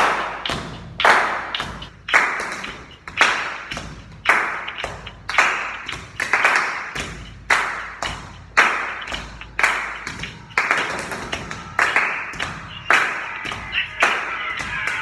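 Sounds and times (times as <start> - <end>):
hand claps and body slaps: 0.0 - 15.0.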